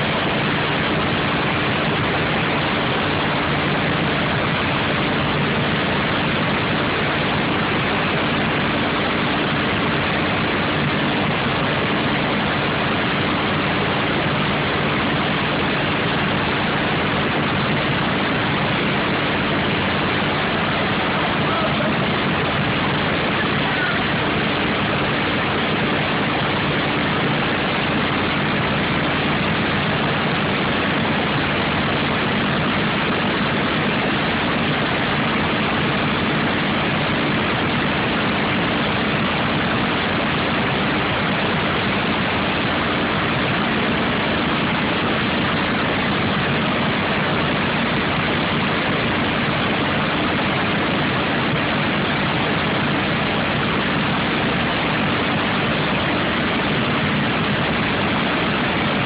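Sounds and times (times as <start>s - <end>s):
constant rushing noise: 0.0s - 59.0s
race car engine idling: 0.0s - 59.0s.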